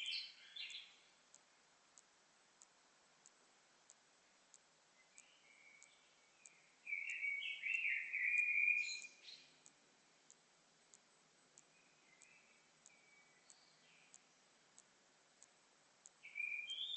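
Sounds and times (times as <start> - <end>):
faint repeating tick: 0.1 - 16.4.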